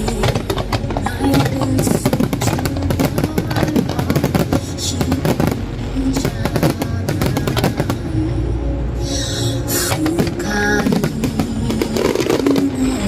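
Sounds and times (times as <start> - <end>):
fireworks cracking and banging: 0.0 - 8.1, 9.9 - 13.0
loud music: 0.0 - 13.0.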